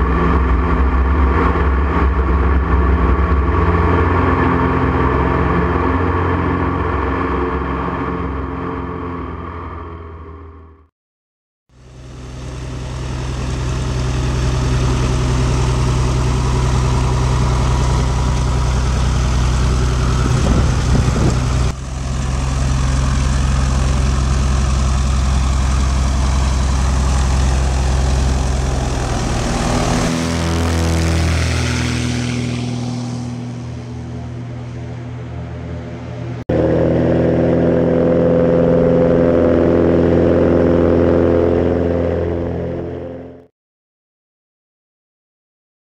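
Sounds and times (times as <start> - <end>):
light aircraft engine and propeller: 0.0 - 10.7, 11.7 - 43.5.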